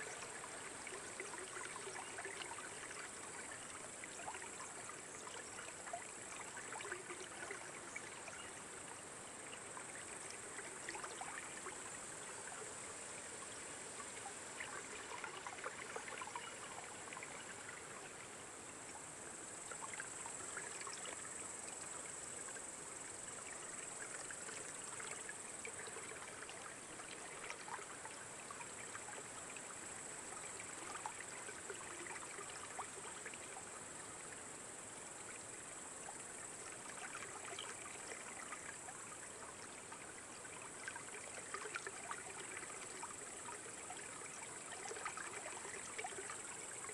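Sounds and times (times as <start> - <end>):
water trickling and bubbling: 0.0 - 46.9.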